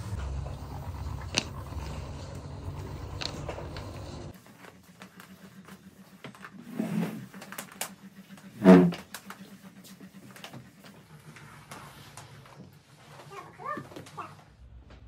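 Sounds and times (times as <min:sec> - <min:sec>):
steam mop humming: 0:00.0 - 0:13.7.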